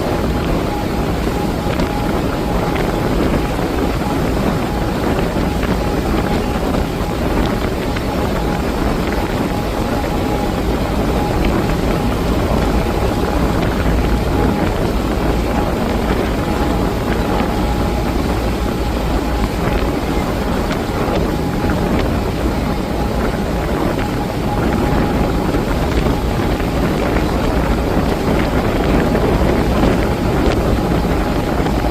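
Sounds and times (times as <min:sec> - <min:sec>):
boat engine drone: 0:00.0 - 0:31.9
faint high whine: 0:00.0 - 0:31.9
sea water rushing: 0:00.0 - 0:31.9
wind buffeting microphone: 0:00.0 - 0:31.9.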